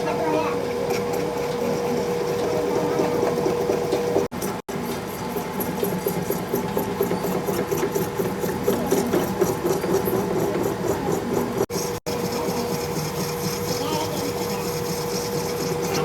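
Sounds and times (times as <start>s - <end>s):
metal lathe motor hum: 0.0s - 16.0s.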